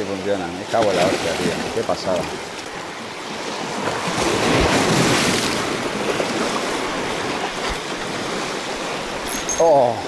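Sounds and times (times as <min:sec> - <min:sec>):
waves washing on rocky shore: 0:00.2 - 0:10.0.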